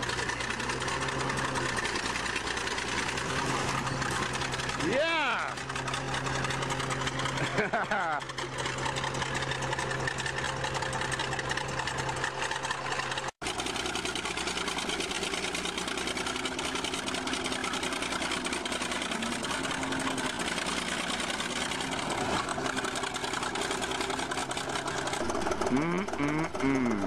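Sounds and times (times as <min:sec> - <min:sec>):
bulldozer diesel engine clatter: 0:00.0 - 0:27.0.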